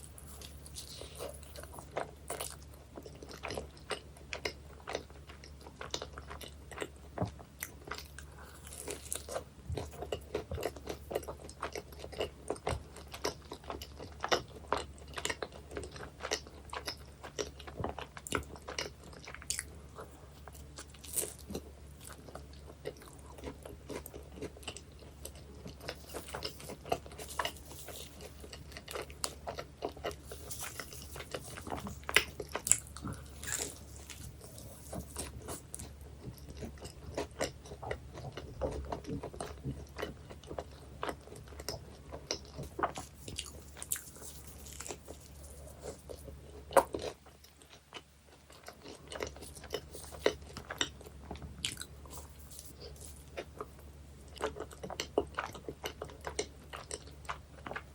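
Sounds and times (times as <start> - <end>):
crunchy pastry chewing: 0.0 - 57.9.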